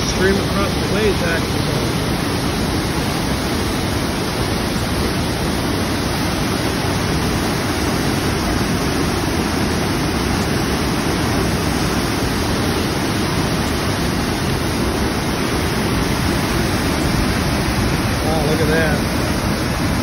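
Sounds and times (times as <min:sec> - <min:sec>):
river pouring over waterfall: 0:00.0 - 0:20.0.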